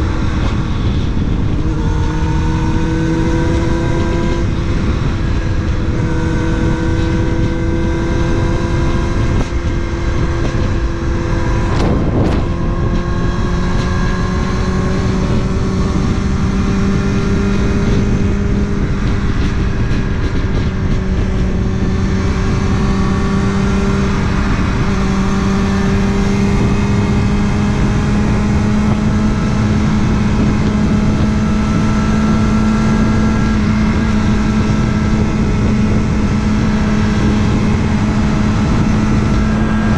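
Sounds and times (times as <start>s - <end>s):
motorcycle engine cruising: 0.0s - 39.9s
riding wind noise: 0.0s - 39.9s.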